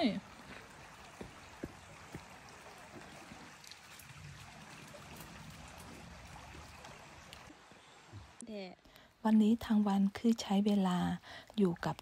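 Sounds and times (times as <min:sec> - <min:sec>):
faint burble of forest stream: 0:00.0 - 0:12.0.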